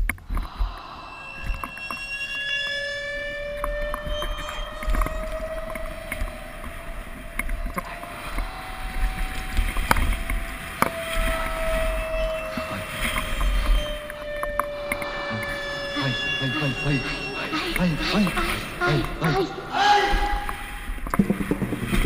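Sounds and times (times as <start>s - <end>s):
low wind rumble: 0.0s - 22.0s.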